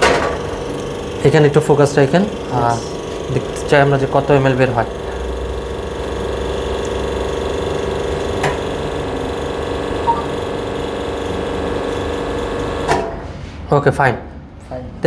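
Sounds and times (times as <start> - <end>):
espresso machine pump humming: 0.0 - 12.9.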